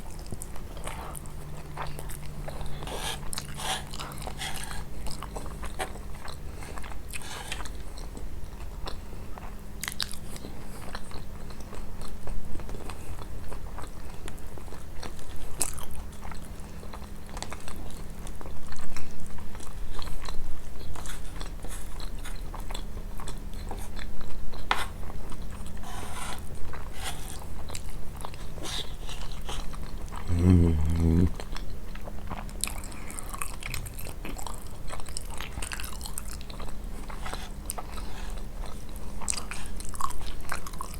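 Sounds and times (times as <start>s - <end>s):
chewing crunchy pastry: 0.0s - 40.9s.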